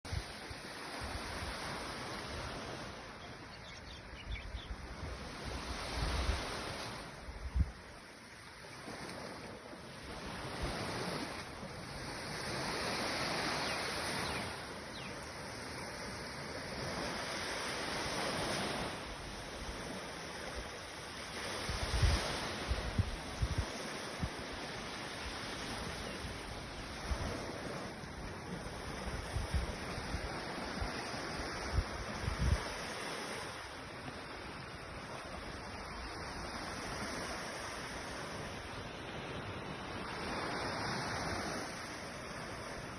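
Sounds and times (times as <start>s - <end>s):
sea waves washing in: 5.0s - 42.9s.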